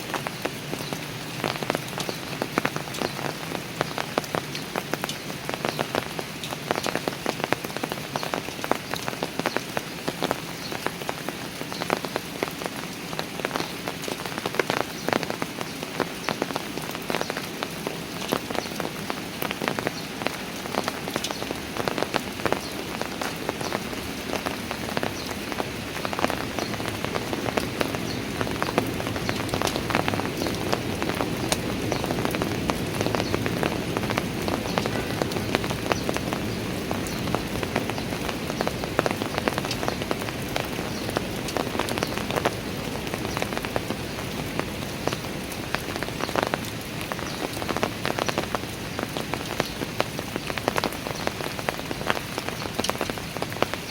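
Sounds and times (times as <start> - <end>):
rain falling on stairs: 0.0 - 53.9
raindrops tapping: 0.0 - 53.9.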